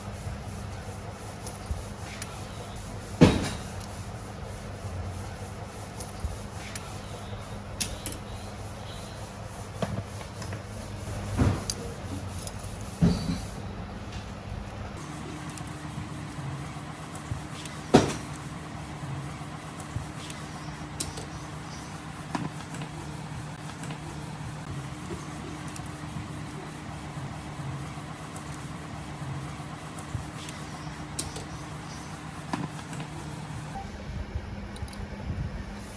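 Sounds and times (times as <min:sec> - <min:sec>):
low workshop hum: 0:00.0 - 0:35.9.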